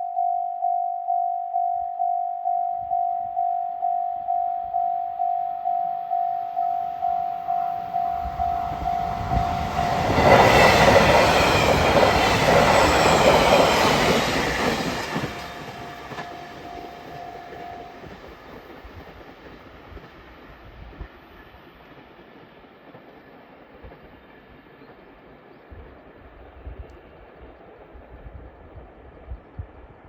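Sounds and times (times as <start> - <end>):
train passing: 3.8 - 30.0.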